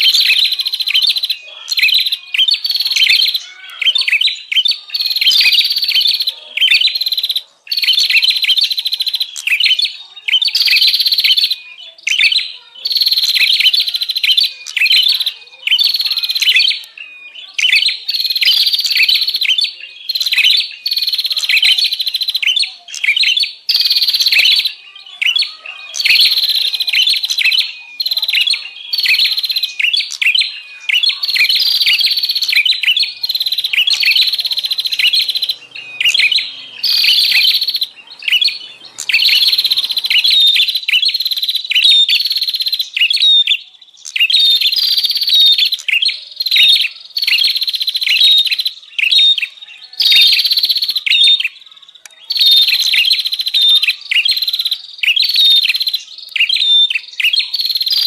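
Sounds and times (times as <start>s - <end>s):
prinia singing rapid chirps: 0.0s - 58.0s.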